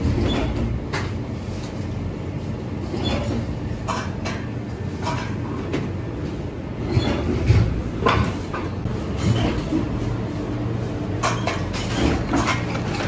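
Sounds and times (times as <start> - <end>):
factory machinery humming: 0.0 - 13.0.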